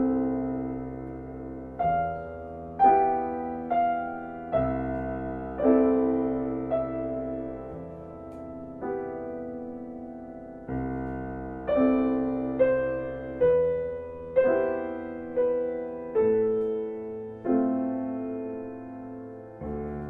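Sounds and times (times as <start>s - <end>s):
slow solo piano: 0.0s - 20.0s.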